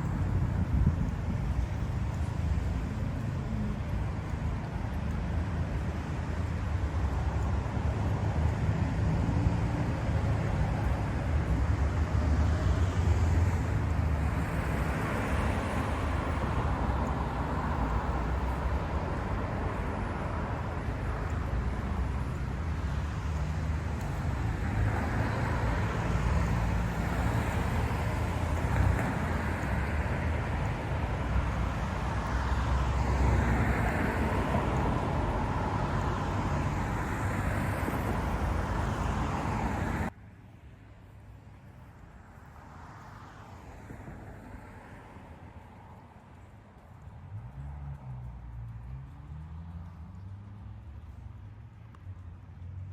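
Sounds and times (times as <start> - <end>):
cars passing on a road: 0.0 - 52.9.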